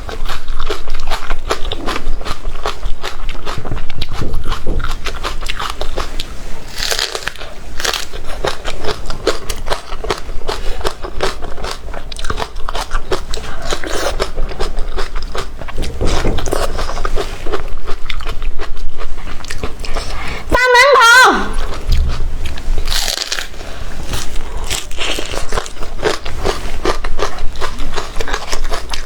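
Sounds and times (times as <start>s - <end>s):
person chewing crunchy food: 0.0s - 20.5s, 21.5s - 29.0s.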